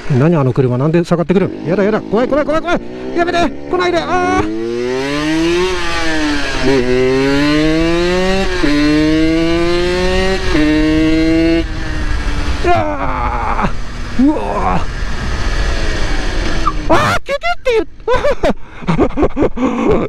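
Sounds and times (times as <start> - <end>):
motorcycle engine accelerating: 0.9 - 17.1.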